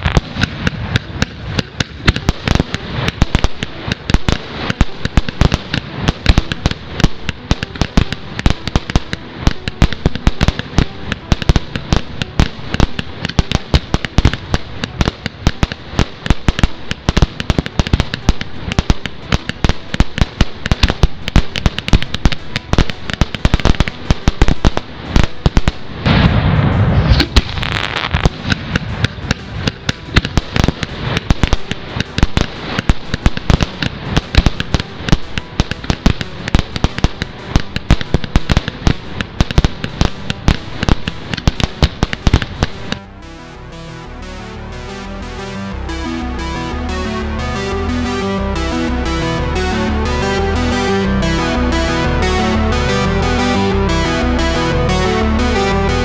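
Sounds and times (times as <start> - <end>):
deep firework burst: 0.0 - 56.0
fireworks crackling and popping: 0.0 - 56.0.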